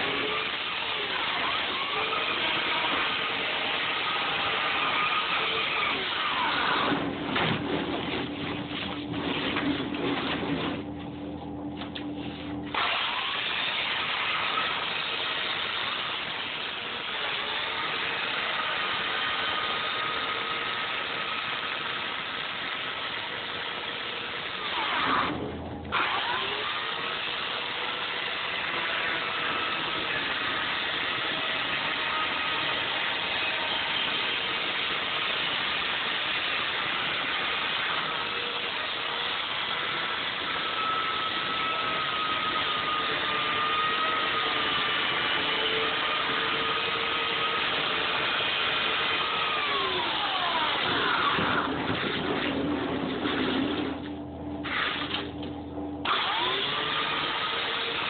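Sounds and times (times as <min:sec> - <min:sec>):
electric chainsaw cutting foam: 0:00.0 - 0:10.9, 0:12.0 - 0:58.0.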